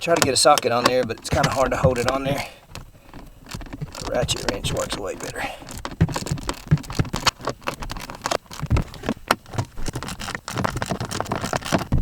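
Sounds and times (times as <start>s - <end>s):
small metal knocks: 0.0s - 12.0s.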